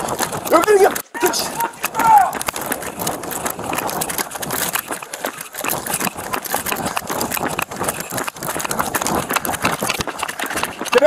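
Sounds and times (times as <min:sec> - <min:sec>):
clothing rubbing on microphone: 0:00.0 - 0:11.0
rifle and gear rattling: 0:00.0 - 0:11.0
running footsteps on asphalt: 0:00.0 - 0:11.0.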